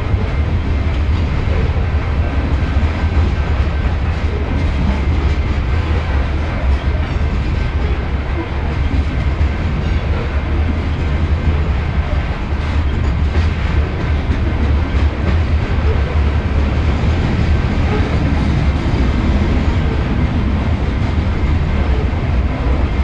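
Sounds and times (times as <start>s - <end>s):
train wheels clacking on rails: 0.0s - 23.0s.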